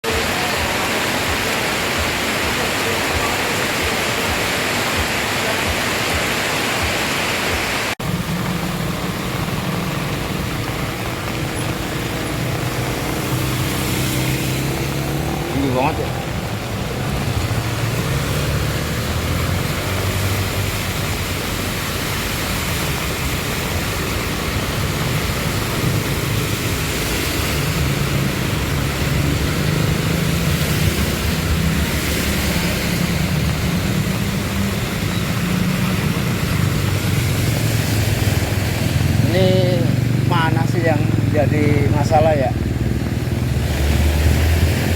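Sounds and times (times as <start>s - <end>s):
heavy rain hiss: 0.0s - 44.9s
water splashing: 0.0s - 44.9s
motorcycle engine drone: 8.0s - 44.9s.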